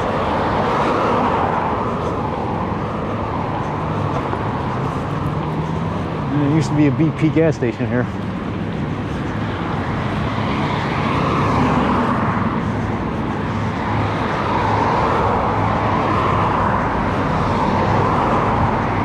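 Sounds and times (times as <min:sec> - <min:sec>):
car engine hum: 0:00.0 - 0:19.0
tyre and road rumble: 0:00.0 - 0:19.0.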